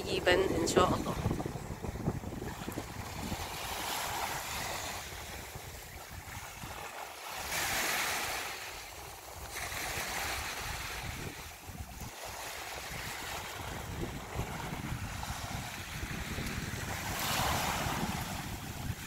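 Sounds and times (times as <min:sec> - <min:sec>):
small waves washing up beach: 0:00.0 - 0:19.0
wind rumble on microphone: 0:00.0 - 0:19.0.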